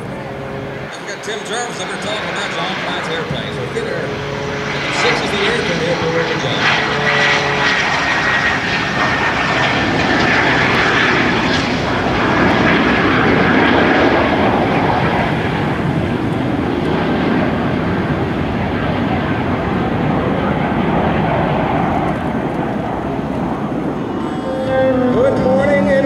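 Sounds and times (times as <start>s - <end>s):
faint high engine whine: 0.0s - 26.0s
low-flying airplane engines: 0.0s - 26.0s.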